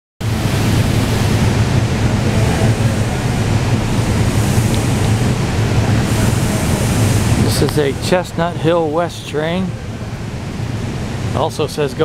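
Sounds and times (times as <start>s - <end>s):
even rushing noise: 0.2s - 12.0s
train equipment low hum: 0.2s - 12.0s.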